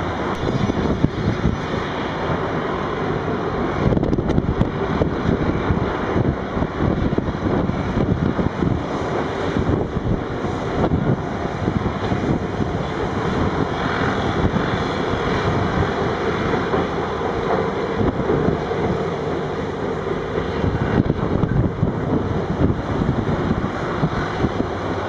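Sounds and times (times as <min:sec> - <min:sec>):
heavy diesel engines rumbling: 0:00.0 - 0:25.0
wind buffeting microphone: 0:00.0 - 0:25.0.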